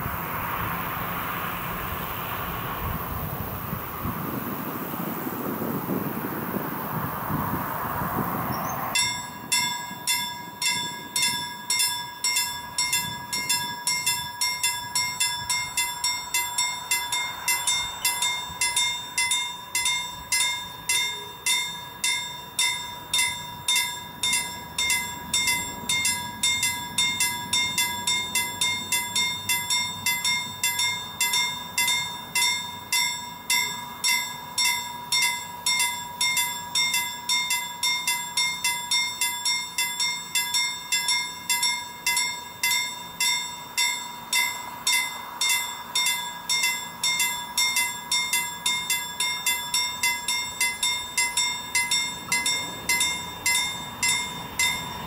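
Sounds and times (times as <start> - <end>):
level-crossing warning bell ringing: 8.6 - 55.0.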